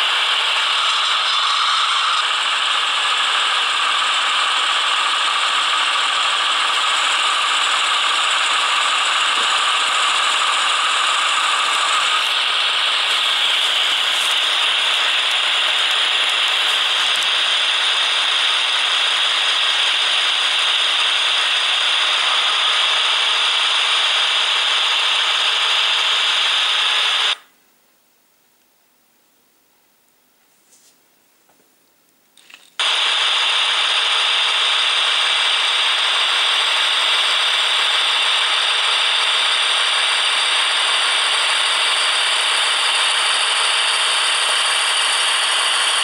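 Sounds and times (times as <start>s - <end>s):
model train whirring rattle: 0.0s - 27.4s, 32.4s - 46.0s.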